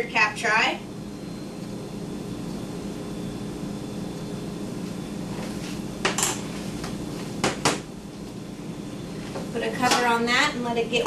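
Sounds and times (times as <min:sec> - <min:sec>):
kitchen machinery hum: 0:00.0 - 0:11.0.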